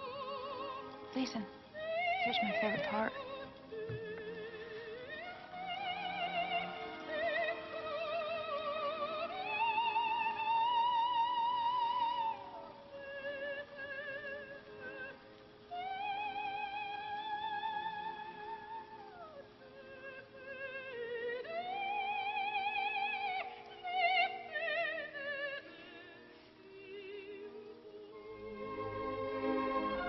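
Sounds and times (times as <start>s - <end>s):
soprano singing opera: 0.0s - 30.0s.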